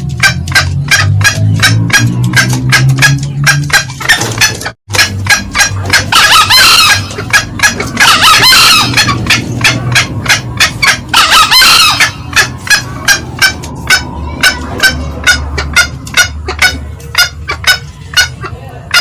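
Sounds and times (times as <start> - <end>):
junglefowl cackling: 0.0 - 19.0
junglefowl crowing: 0.1 - 19.0.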